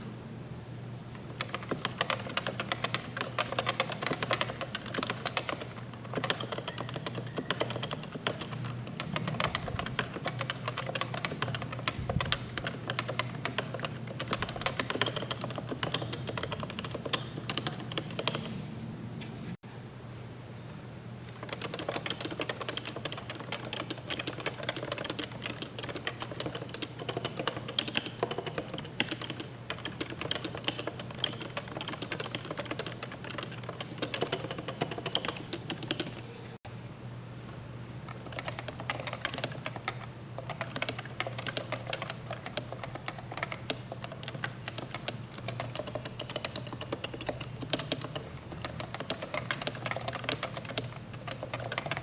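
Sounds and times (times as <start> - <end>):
fast keyboard typing: 1.4 - 18.5, 21.3 - 36.3, 38.1 - 52.0.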